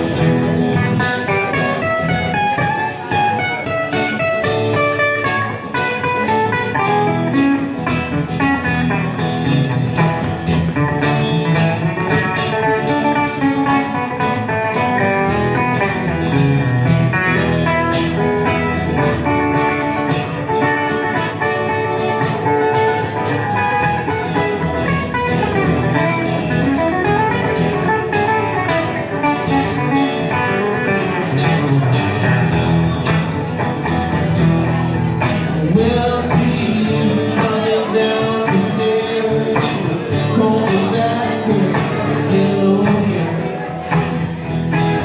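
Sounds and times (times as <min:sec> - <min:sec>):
plucked and strummed guitar: 0:00.0 - 0:45.0.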